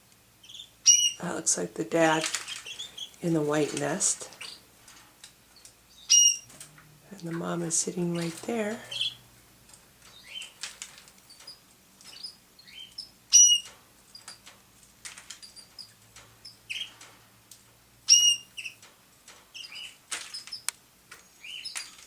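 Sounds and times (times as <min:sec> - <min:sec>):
canaries chirping: 0:00.3 - 0:17.4, 0:18.0 - 0:22.0.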